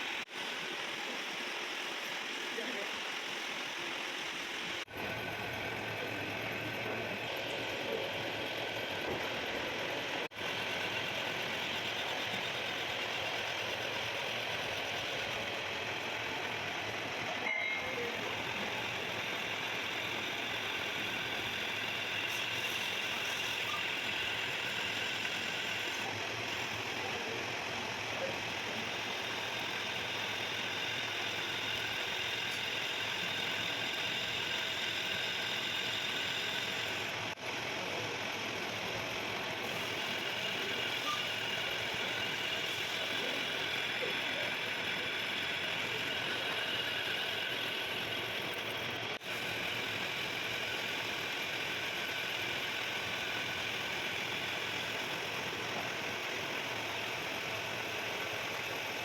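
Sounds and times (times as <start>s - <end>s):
machine tool whirring: 0.0s - 59.0s.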